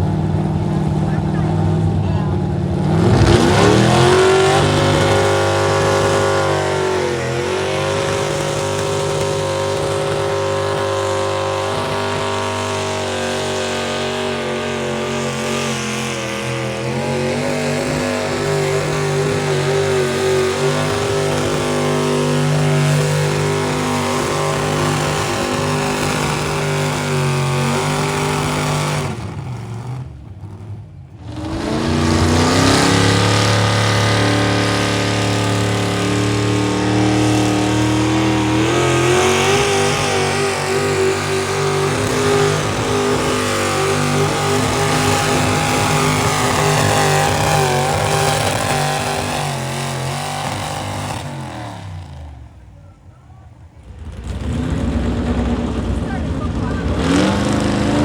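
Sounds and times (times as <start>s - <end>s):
vehicle engine revving under load: 0.0s - 58.0s.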